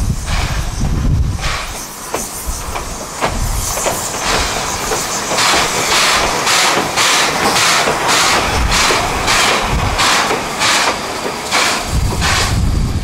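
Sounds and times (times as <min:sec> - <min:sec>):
steam locomotive chuffing: 0:00.0 - 0:13.0
wheels clicking on rail joints: 0:00.3 - 0:12.7.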